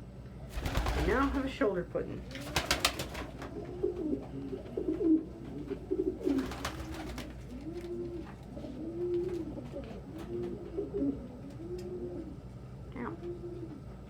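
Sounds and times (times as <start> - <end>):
pigeons cooing: 0.4 - 14.0.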